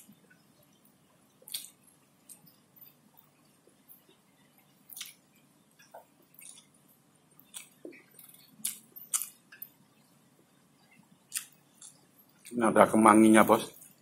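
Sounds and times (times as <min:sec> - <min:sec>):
man chewing food: 0:00.0 - 0:12.6.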